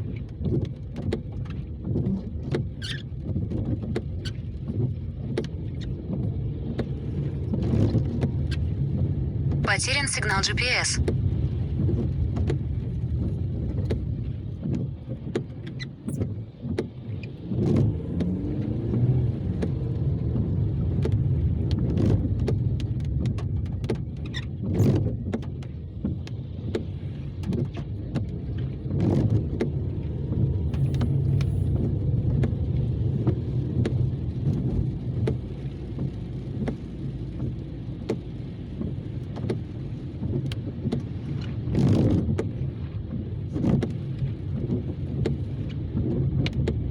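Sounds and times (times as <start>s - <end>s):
road and engine rumble: 0.0s - 46.9s.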